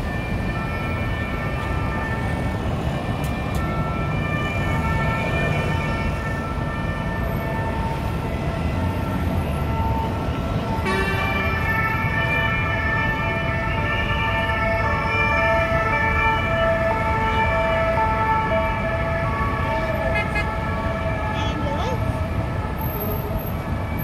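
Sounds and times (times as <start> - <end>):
dense road traffic: 0.0 - 24.0
two-tone emergency siren: 0.0 - 24.0.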